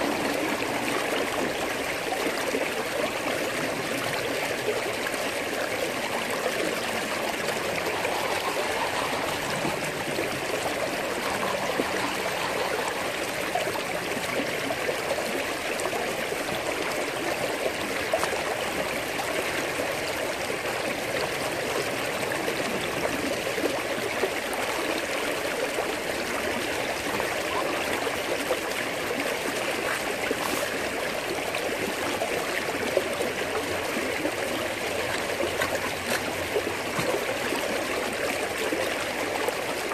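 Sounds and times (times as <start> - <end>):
water rushing through metal sluice: 0.0 - 39.9.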